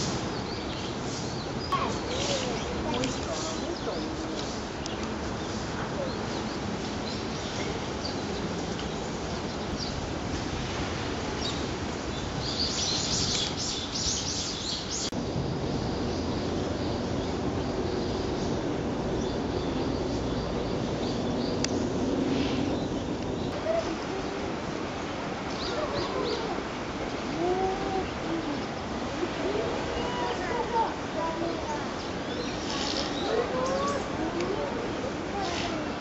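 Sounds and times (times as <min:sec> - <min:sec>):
small birds chirping: 0:00.0 - 0:10.2, 0:11.3 - 0:15.2, 0:16.0 - 0:36.0.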